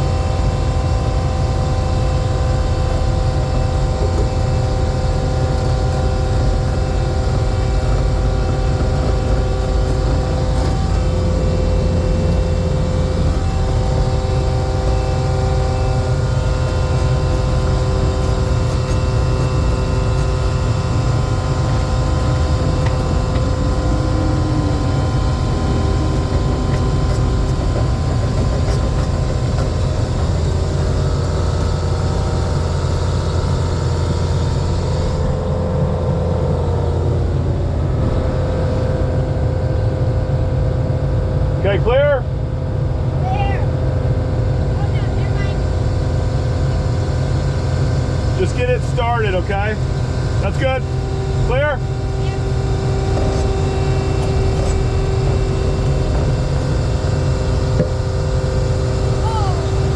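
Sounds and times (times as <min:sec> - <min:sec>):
diesel engine under load: 0:00.0 - 0:43.4, 0:44.0 - 0:59.9
hydraulic whine: 0:00.0 - 0:59.9.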